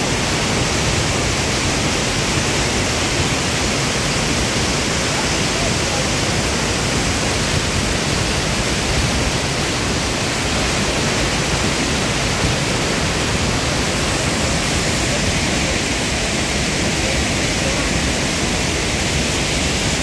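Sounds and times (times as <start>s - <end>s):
waterfall crashing onto rocks: 0.0s - 20.0s
whitewater tumbling over boulders: 0.0s - 20.0s.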